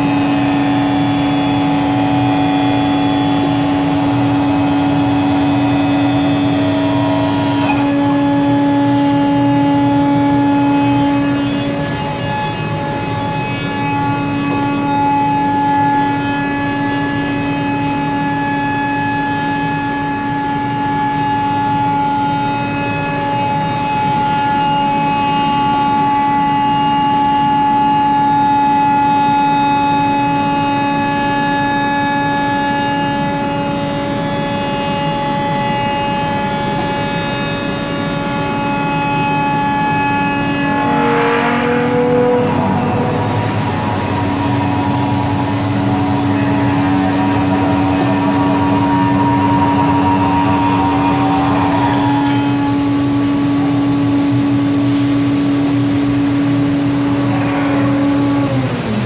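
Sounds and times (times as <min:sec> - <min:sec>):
cnc machine whining: 0:00.0 - 0:59.0.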